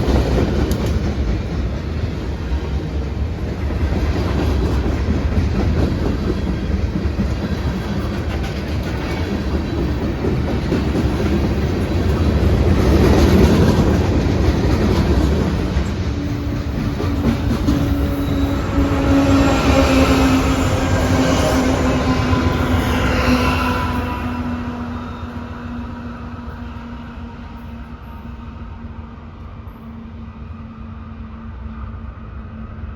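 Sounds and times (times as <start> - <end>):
freight train wheels clicking: 0.0 - 27.8.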